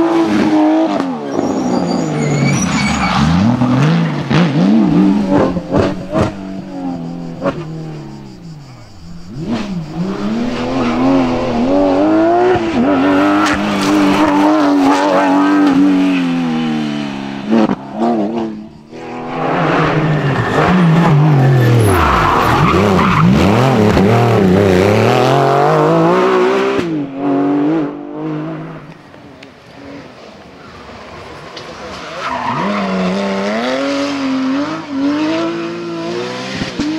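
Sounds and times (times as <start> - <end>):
rally car engines revving past: 0.0 - 36.9.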